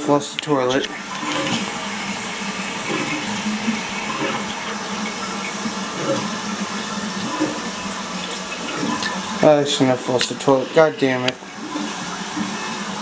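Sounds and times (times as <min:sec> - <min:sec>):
toilet flushing: 0:00.0 - 0:13.0.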